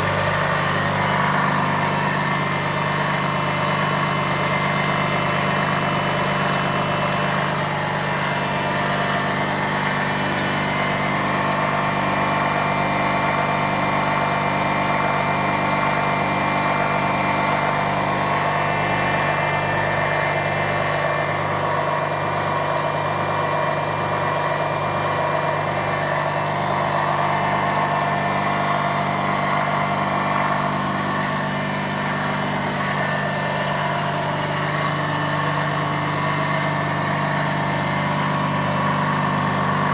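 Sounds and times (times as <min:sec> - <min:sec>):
motor humming: 0:00.0 - 0:39.9.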